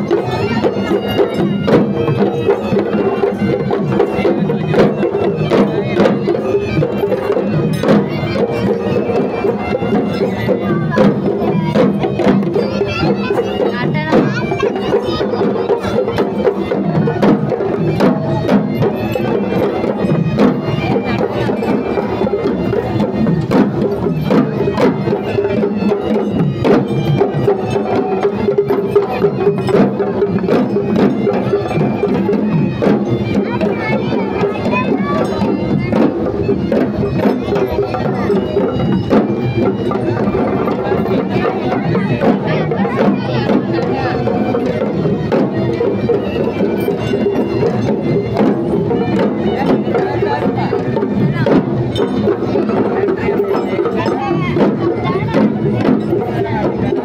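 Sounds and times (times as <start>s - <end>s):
hand drums beating: 0.0s - 57.0s
held wind instrument tones: 0.0s - 57.0s.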